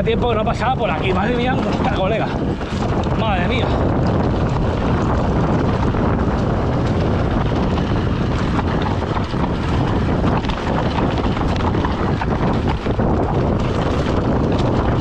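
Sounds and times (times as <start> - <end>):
bike rattling over stones: 0.0 - 15.0
bike tyre rumble: 0.0 - 15.0
wind buffeting microphone: 0.0 - 15.0.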